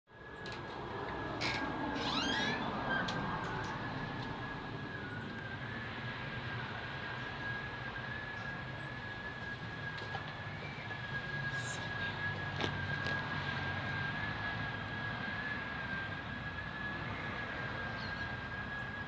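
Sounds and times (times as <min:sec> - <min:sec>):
high-pitched whine from sky: 0:00.1 - 0:19.0.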